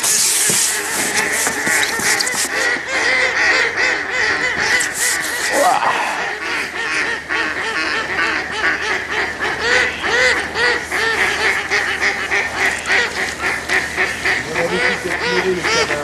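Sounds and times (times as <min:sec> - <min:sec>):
waterbirds calling: 0:00.0 - 0:16.0.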